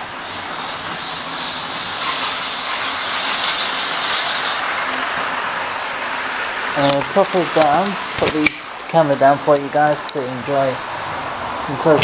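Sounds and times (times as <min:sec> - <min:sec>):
model trains rolling on track: 0:00.0 - 0:10.9.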